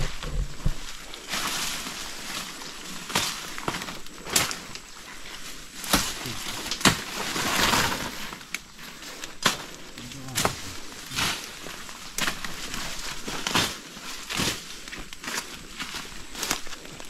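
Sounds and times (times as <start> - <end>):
footsteps through dry leaves: 0.0 - 17.0
rustle of leaves: 0.0 - 17.0
twigs snapping underfoot: 0.0 - 17.0.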